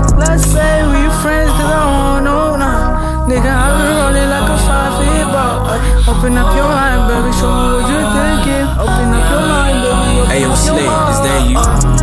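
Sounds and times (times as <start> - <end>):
hip-hop song with heavy bass: 0.0 - 12.0
sung vocal: 0.0 - 12.0.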